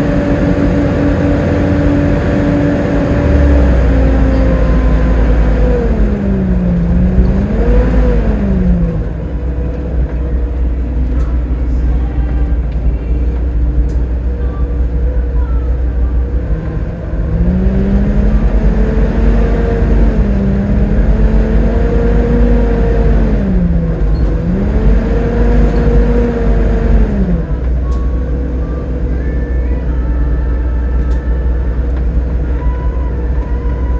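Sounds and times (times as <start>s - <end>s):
diesel bus engine rumbling: 0.0s - 33.9s
pitched engine drone: 0.0s - 33.9s.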